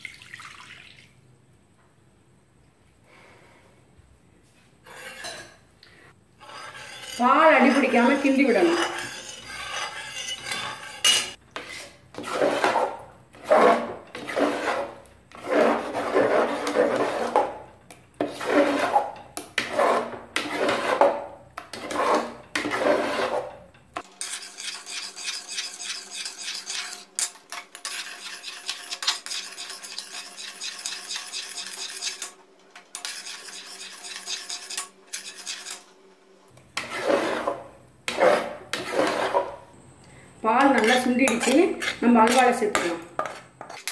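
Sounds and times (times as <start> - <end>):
metal ladle scraping pan: 4.8 - 5.6, 6.4 - 35.9, 36.6 - 39.7, 40.5 - 43.9.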